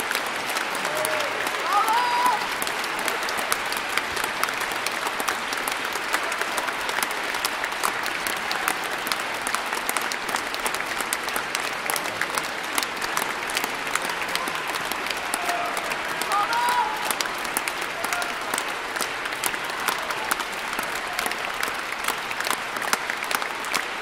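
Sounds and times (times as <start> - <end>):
audience applauding: 0.0 - 24.0.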